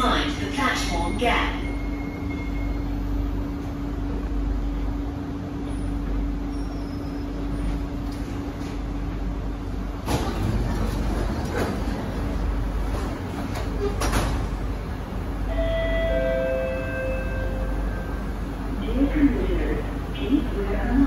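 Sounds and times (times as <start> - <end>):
train hum: 0.0 - 21.0
train running noise: 0.0 - 21.0.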